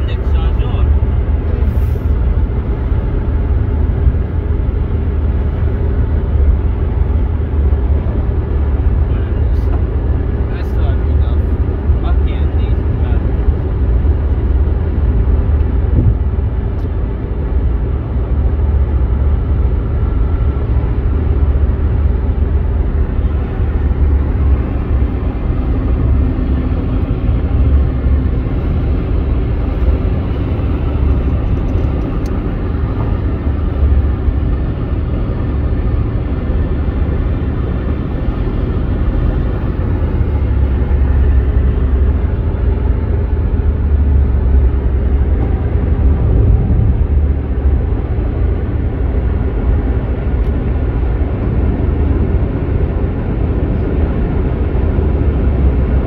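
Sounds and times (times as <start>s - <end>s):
road noise inside car: 0.0s - 56.0s.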